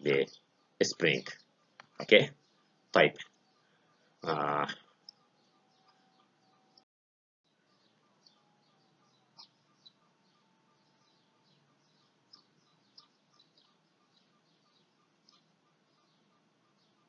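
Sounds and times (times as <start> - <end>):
small birds chirping: 0.0 - 6.9, 7.5 - 17.0.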